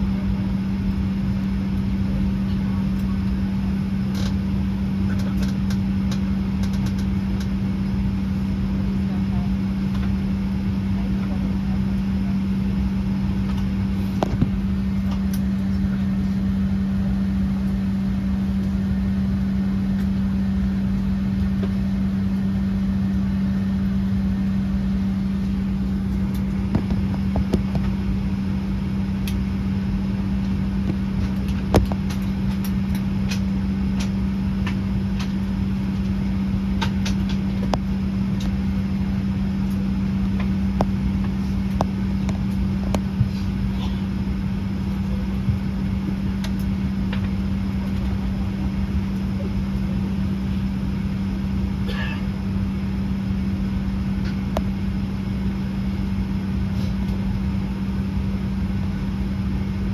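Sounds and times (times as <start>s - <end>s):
cabin ventilation airflow hum: 0.0s - 59.9s.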